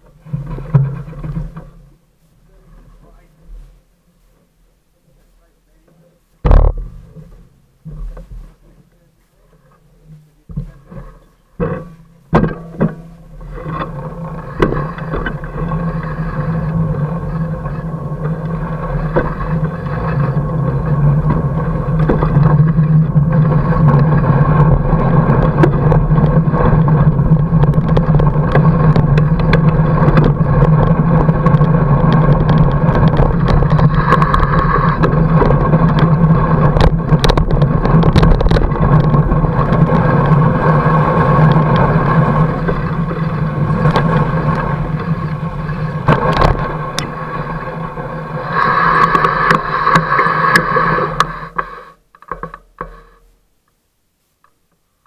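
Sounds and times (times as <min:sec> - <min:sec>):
bike rattling over bumps: 0:00.0 - 0:02.1, 0:06.4 - 0:08.9, 0:09.6 - 0:53.3
bike tyres rumbling on snow: 0:00.0 - 0:04.4, 0:05.7 - 0:53.2.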